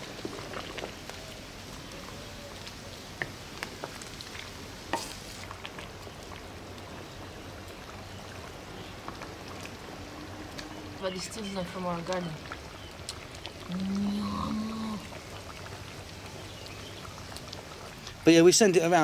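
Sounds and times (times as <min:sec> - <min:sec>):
curry bubbling in a wok: 0:00.0 - 0:19.0.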